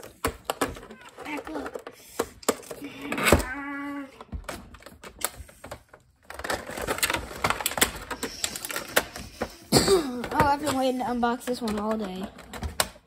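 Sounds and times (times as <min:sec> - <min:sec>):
plastic crackling: 0:00.0 - 0:13.0.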